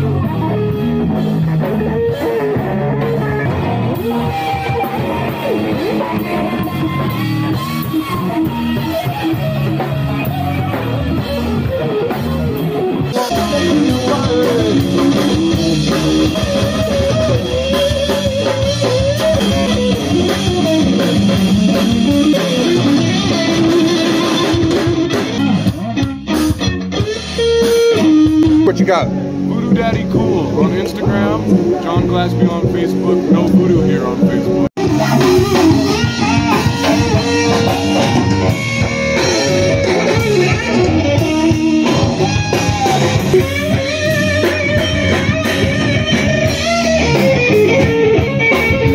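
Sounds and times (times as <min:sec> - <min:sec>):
bass guitar: 0:00.0 - 0:48.9
drum kit: 0:00.0 - 0:48.9
electric guitar: 0:00.0 - 0:48.9.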